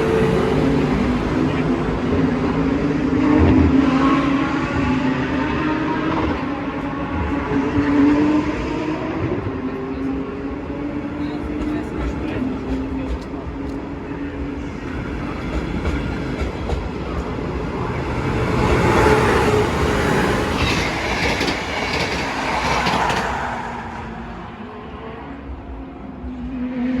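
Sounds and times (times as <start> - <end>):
passenger train passing: 0.0 - 27.0.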